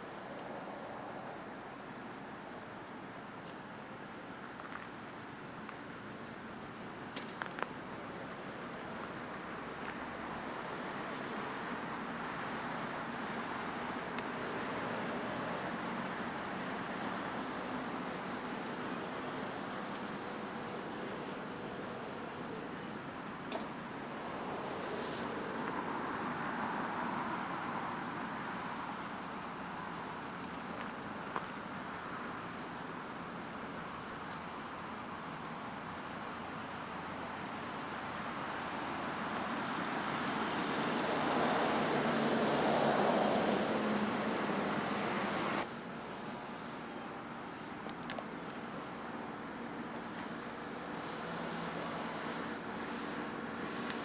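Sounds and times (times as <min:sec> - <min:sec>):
rushing background hiss: 0:00.0 - 0:54.0.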